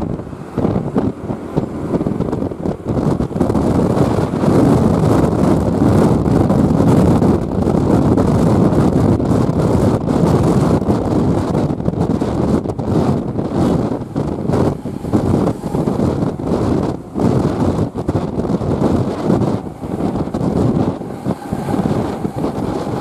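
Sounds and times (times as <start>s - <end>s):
bus engine rumbling: 0.0s - 23.0s
wind buffeting microphone: 0.0s - 23.0s.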